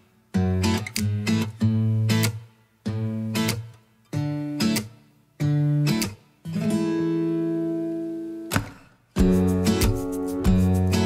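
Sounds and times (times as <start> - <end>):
strummed acoustic guitar chords: 0.2 - 11.0.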